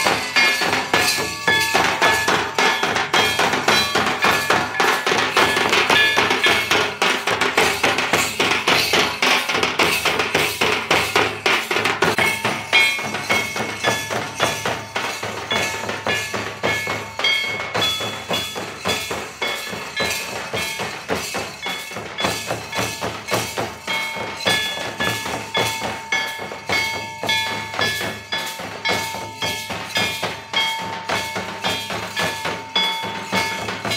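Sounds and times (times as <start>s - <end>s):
hand drums beating: 0.0s - 33.9s.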